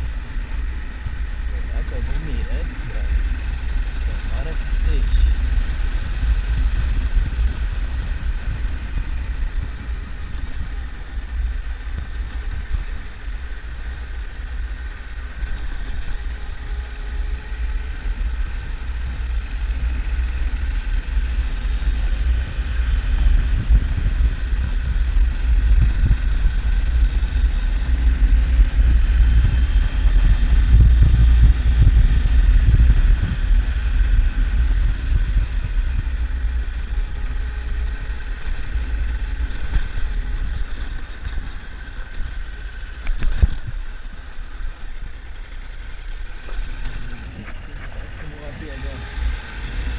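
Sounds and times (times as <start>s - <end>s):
wind buffeting on microphone: 0.0s - 13.6s, 14.3s - 49.9s
motorcycle engine running: 0.0s - 49.9s.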